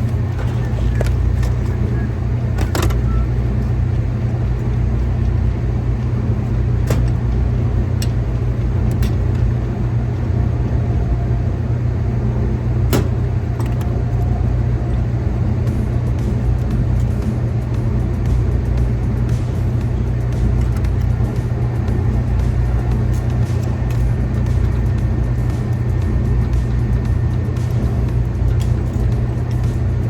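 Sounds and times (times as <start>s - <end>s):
low machinery rumble: 0.0s - 30.0s.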